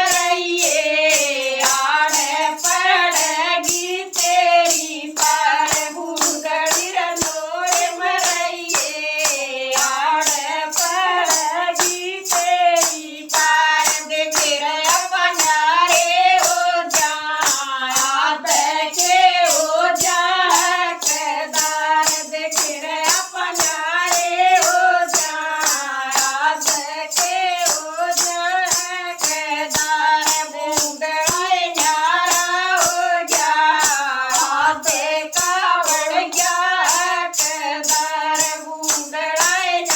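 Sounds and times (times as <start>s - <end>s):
jingling hand percussion: 0.0s - 39.9s
person singing devotional folk song: 0.0s - 39.9s.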